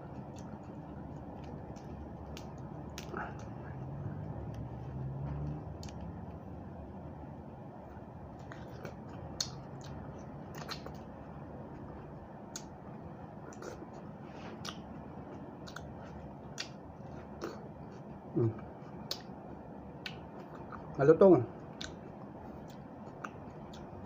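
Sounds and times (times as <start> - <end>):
chewing crunchy raw vegetables: 0.0 - 6.2, 8.4 - 24.0.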